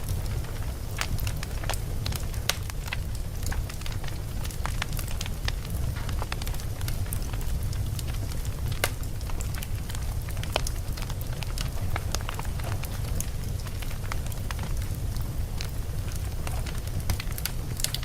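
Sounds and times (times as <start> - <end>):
fire crackles and pops: 0.0 - 18.0
low rumble of flame: 0.0 - 18.0.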